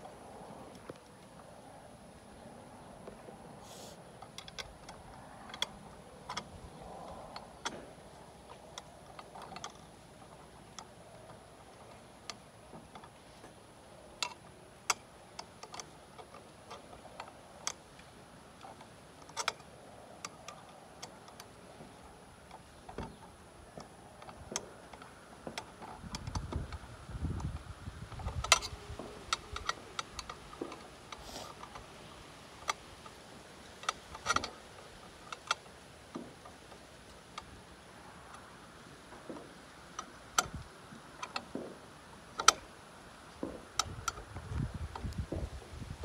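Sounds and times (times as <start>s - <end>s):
small metallic clicks and ticks: 4.2s - 45.5s.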